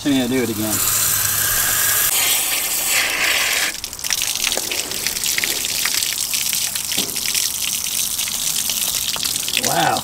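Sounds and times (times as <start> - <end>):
water gushing from tank: 0.1 - 10.0
water splashing on concrete: 0.5 - 10.0.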